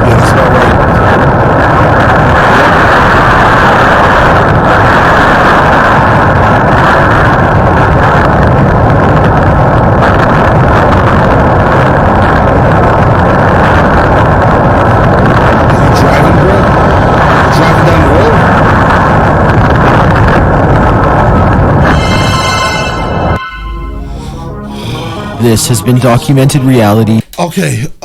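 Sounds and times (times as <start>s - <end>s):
tornado wind rushing: 0.0s - 27.0s.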